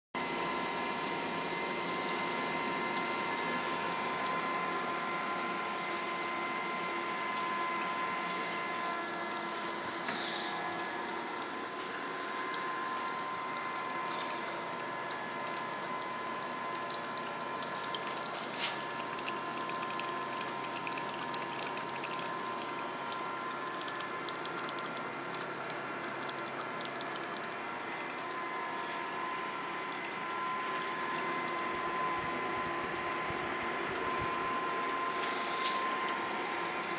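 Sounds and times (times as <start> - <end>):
computer pump and fans whining: 0.2 - 36.9.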